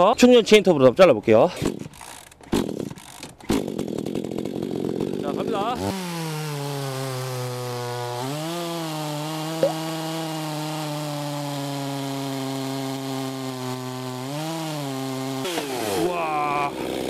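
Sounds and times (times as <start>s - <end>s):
chainsaw cutting log: 1.5s - 17.0s.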